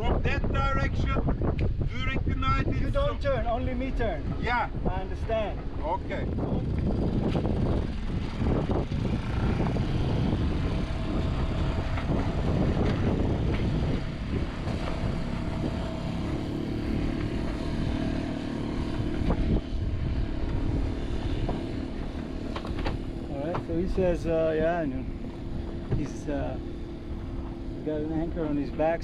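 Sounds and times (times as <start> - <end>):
boat engine running: 0.0 - 29.0
higher engine hum: 1.4 - 29.0.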